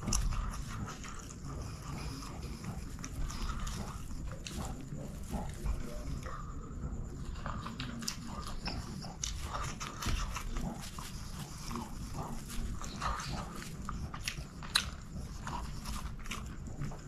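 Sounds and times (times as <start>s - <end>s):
wet chewing and lip smacking: 0.0s - 17.0s.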